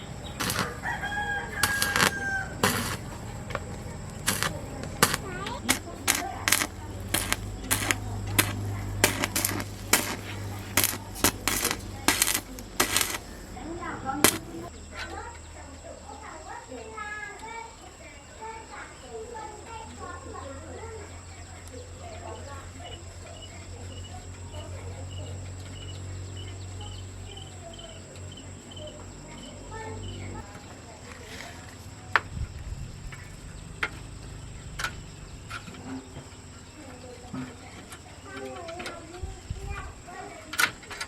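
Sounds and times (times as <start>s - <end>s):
insects chirping: 0.0s - 41.0s
thin high insect tone: 0.0s - 41.0s.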